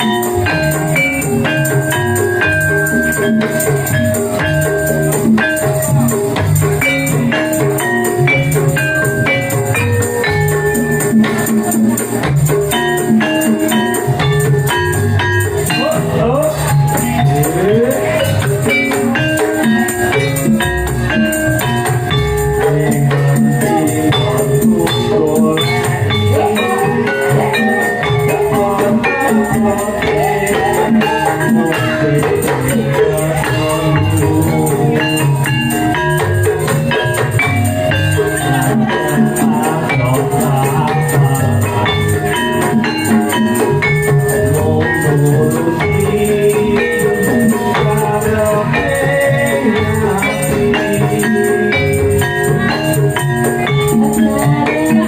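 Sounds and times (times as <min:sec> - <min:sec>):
jingling tambourine: 0:00.0 - 0:55.0
lively music with drum beat: 0:00.0 - 0:55.0.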